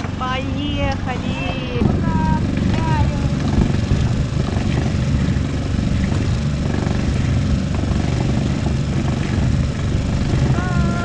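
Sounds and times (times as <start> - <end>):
boat engine low rumble: 0.0 - 11.0.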